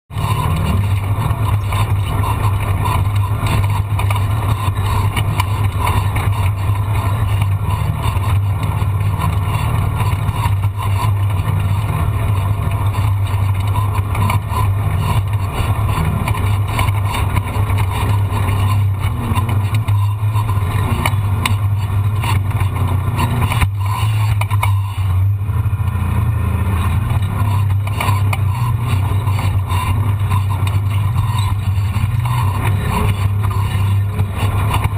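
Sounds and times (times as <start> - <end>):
vehicle engine droning: 0.0 - 34.9.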